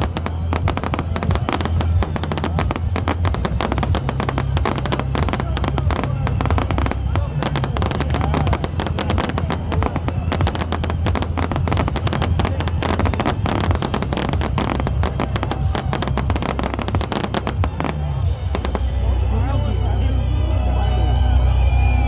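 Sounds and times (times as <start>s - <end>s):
fireworks crackling and popping: 0.0s - 19.4s
music: 0.0s - 22.0s
steady low rumble: 0.0s - 22.0s.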